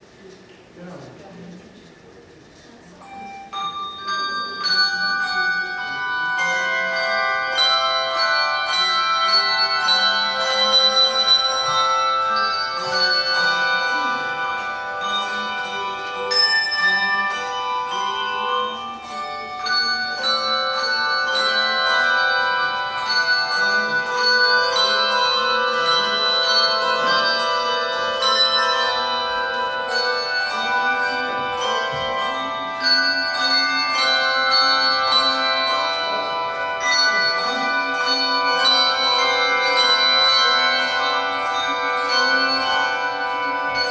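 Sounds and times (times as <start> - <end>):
handbell choir ringing: 3.0 - 43.9.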